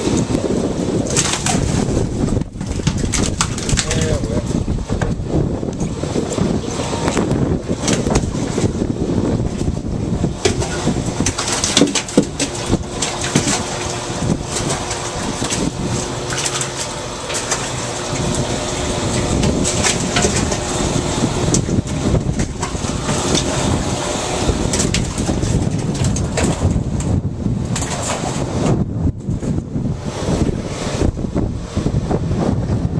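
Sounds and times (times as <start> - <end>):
fish slapping on wet deck: 0.0 - 28.7
boat engine running: 0.0 - 32.9.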